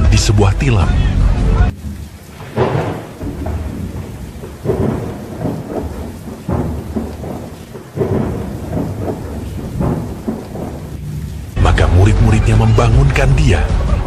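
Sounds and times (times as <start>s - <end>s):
rain: 0.0s - 14.0s
storm rumbling surges: 0.0s - 14.0s
wind: 1.1s - 14.0s.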